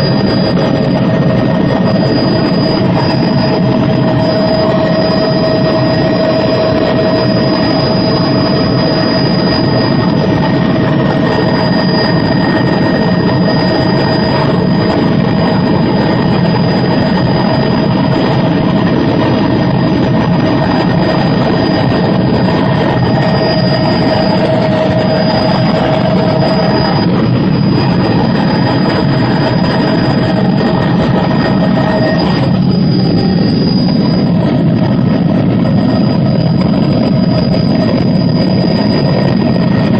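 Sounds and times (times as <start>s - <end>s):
helicopter turbine and rotor drone: 0.0s - 39.9s
thin whine: 0.0s - 39.9s.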